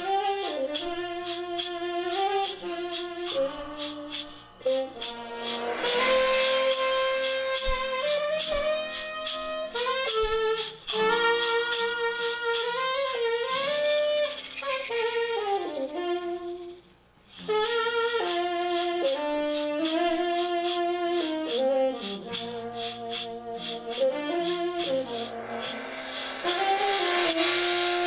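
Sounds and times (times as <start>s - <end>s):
shaker rhythm: 0.0s - 28.0s
tenor saxophone melody: 0.0s - 28.0s.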